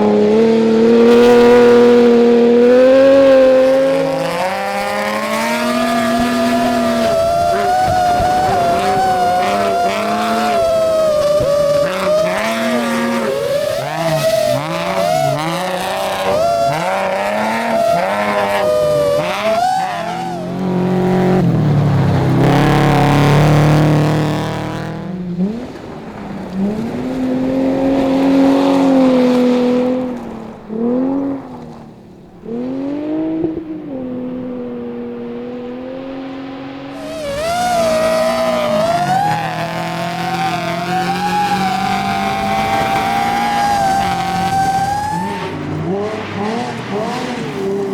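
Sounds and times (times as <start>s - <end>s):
gravel and tyre noise: 0.0s - 47.9s
rally car engines revving: 0.0s - 47.9s.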